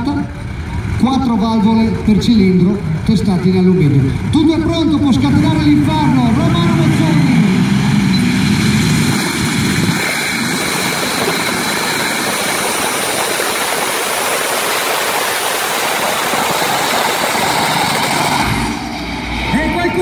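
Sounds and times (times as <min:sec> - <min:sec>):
tractor engines roaring: 0:00.0 - 0:20.0.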